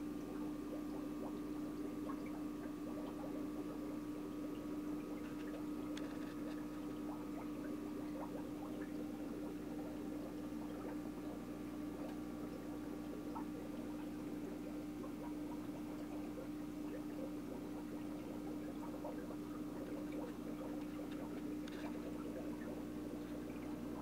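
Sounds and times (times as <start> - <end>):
aquarium equipment hum: 0.0 - 24.0
small bubbling ticks: 0.0 - 24.0
water trickling: 0.0 - 24.0.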